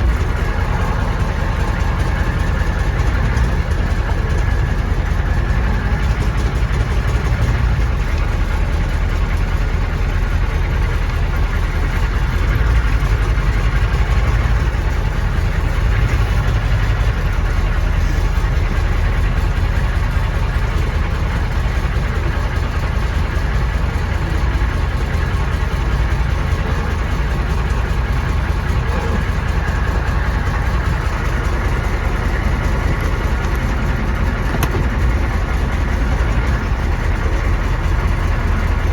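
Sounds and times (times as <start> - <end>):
diesel engine idling with knock: 0.0 - 38.9.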